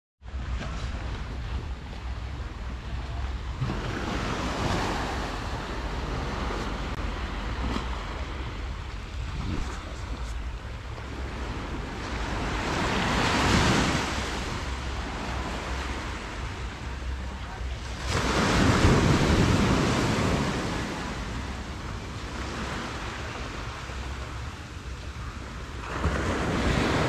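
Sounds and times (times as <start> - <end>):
wind rumble on microphone: 0.2 - 27.0
small waves breaking on sand: 3.5 - 16.8, 17.4 - 27.0.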